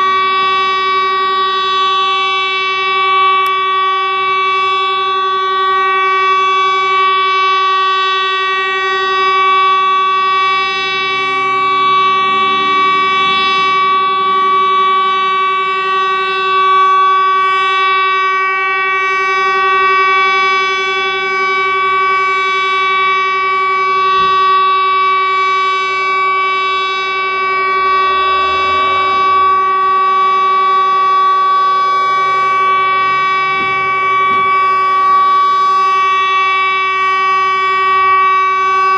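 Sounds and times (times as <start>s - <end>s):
electronic siren steady tone: 0.0s - 38.9s.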